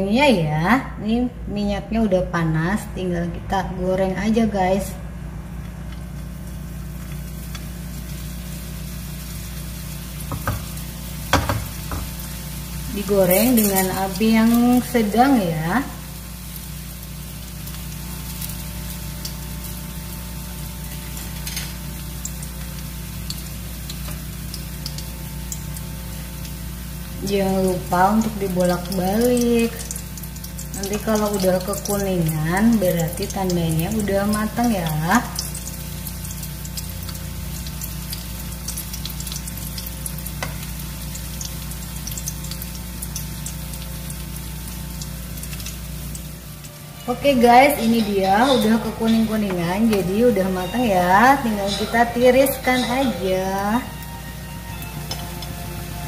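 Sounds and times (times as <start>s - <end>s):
low steady hum: 0.0s - 56.0s
food sizzling in hot oil: 5.4s - 56.0s
oil popping and crackling: 5.6s - 53.9s.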